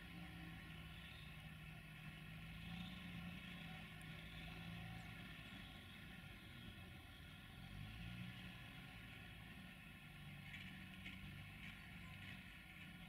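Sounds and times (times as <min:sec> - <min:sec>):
diesel engine idling hum: 0:00.0 - 0:13.0.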